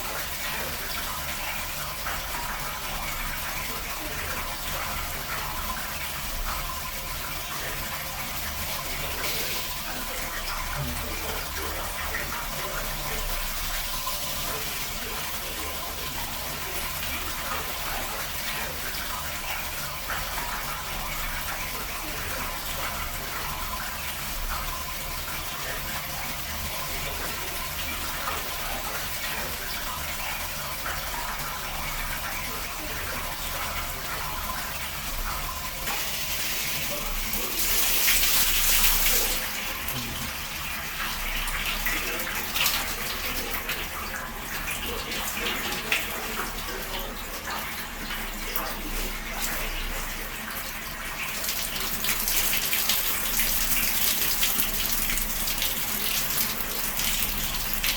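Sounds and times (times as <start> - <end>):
water running from a tap: 0.0 - 57.9.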